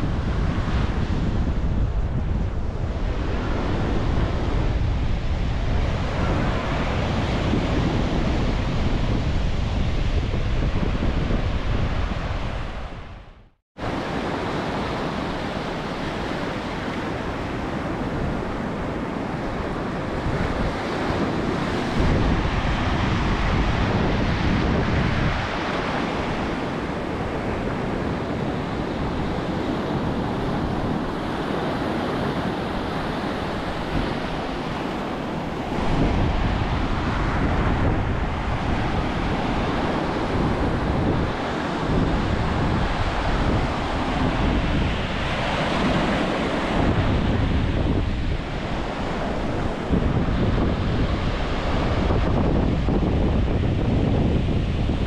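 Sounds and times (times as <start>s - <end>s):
ocean surf washing: 0.0s - 55.0s
wind buffeting microphone: 0.0s - 55.0s.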